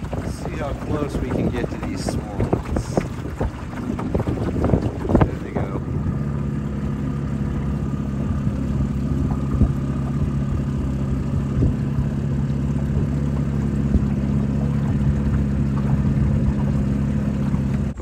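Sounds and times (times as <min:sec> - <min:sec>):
outboard motor droning: 0:00.0 - 0:18.0.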